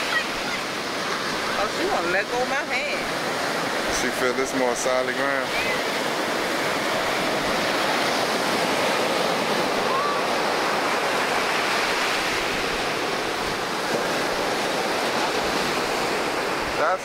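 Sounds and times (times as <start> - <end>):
small waves breaking on sand: 0.0 - 17.0.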